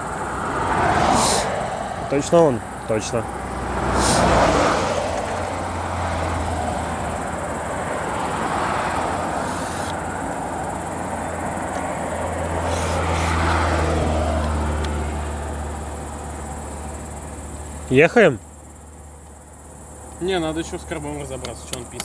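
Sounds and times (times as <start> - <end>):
highway traffic passing: 0.0 - 22.0.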